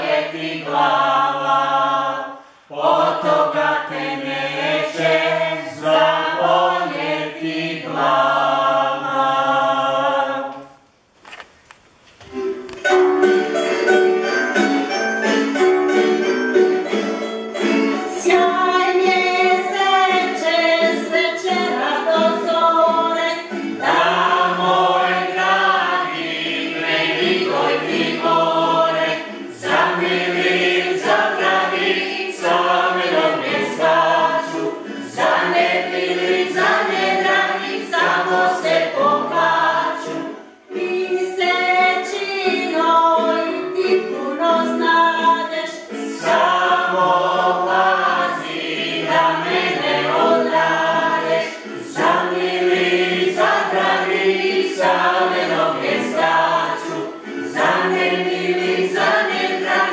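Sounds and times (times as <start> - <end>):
group singing a cappella: 0.0 - 10.8, 17.6 - 59.9.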